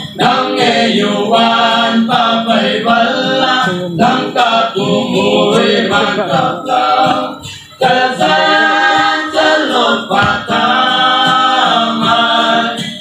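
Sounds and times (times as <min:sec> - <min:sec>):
group of men singing: 0:00.0 - 0:13.0.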